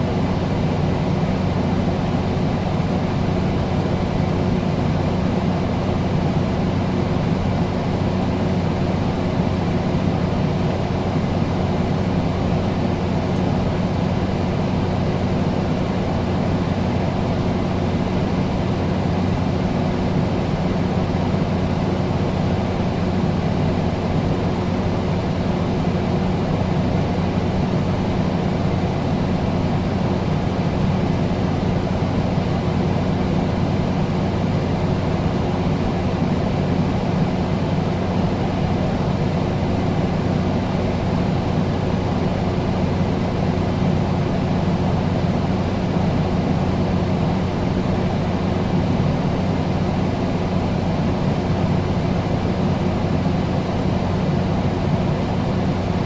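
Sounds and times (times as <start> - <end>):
air conditioner whirring: 0.0 - 56.0
low constant hum: 0.0 - 56.0.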